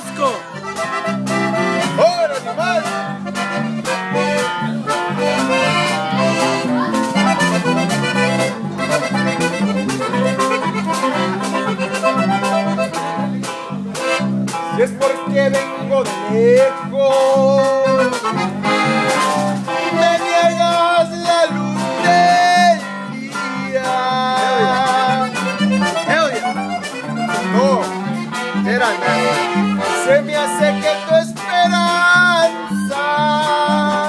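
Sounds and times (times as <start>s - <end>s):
accordion melody: 0.0s - 34.0s
guitar: 0.0s - 34.0s
pulsing bass: 0.0s - 34.0s.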